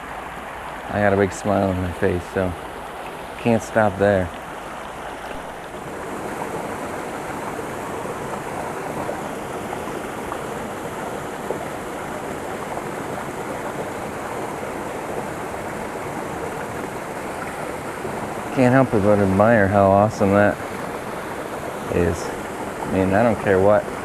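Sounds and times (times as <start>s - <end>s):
small waterfall splashing over rocks: 0.4s - 24.0s.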